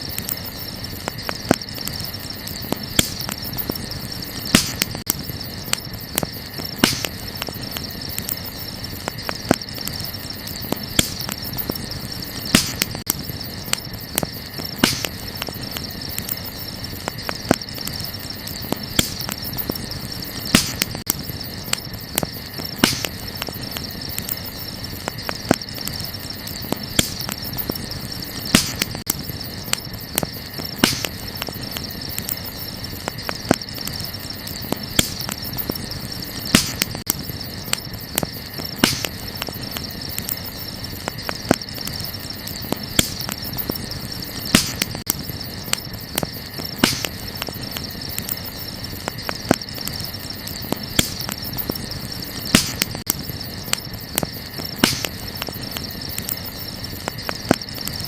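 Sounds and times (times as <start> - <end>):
crickets chirring: 0.0 - 58.0
wood fire crackling and popping: 0.0 - 58.0.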